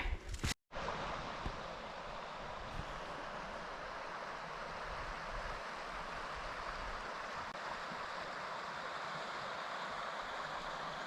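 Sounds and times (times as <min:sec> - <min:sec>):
creek water rushing: 0:00.7 - 0:11.0.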